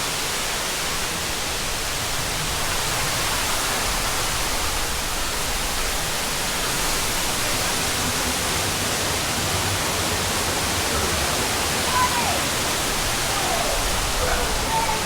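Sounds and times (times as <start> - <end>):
waterfall roaring: 1.2 - 15.0.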